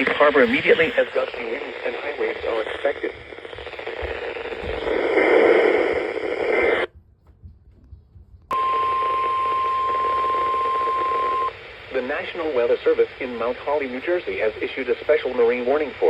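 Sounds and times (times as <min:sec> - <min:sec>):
radio static hiss: 0:00.0 - 0:06.9, 0:08.5 - 0:16.0.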